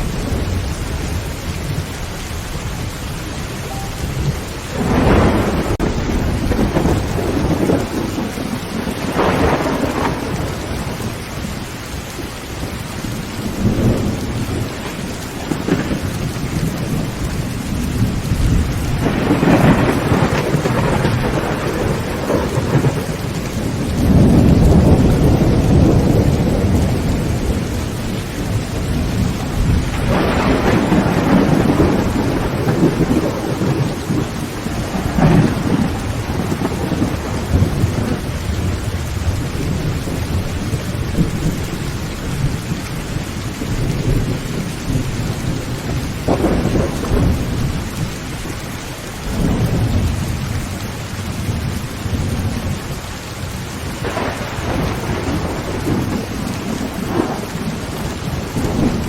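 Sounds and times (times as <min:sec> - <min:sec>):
heavy rain on a tin roof: 0:00.0 - 0:59.0
thunder rumbling: 0:00.0 - 0:59.0.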